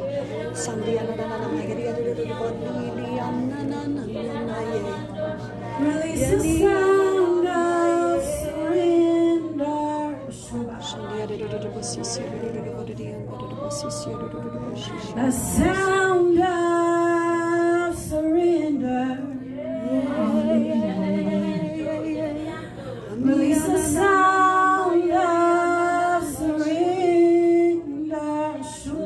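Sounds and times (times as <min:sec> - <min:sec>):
woman singing: 0:00.0 - 0:29.0.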